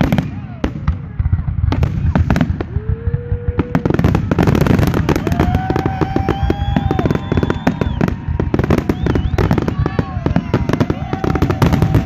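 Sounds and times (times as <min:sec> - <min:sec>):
fireworks crackling bangs: 0:00.0 - 0:12.0
whistling fireworks: 0:00.0 - 0:12.0.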